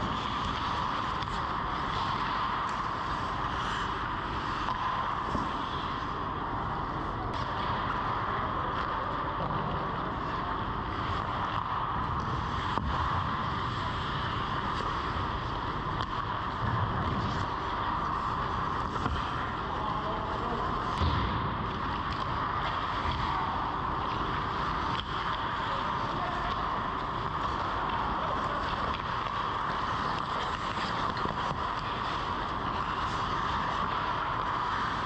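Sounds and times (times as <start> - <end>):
skates and sticks on ice: 0.0 - 35.0
steady rushing noise: 0.0 - 35.0.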